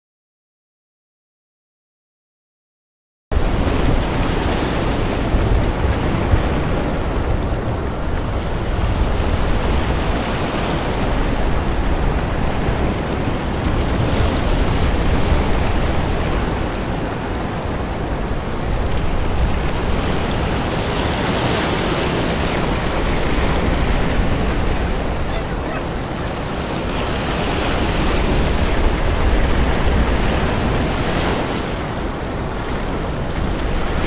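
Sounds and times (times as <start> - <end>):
sea surf: 3.3 - 34.0
wind rumble on microphone: 3.3 - 34.0.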